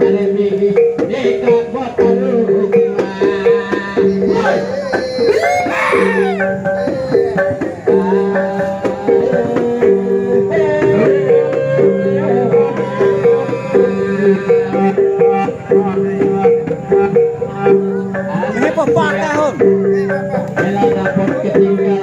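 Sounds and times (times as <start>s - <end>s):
plucked string dance music: 0.0s - 22.0s.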